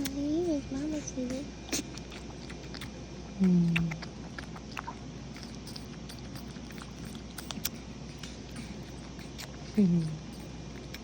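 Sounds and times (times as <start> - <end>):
baby monkey sucking milk bottle: 0.0 - 11.0.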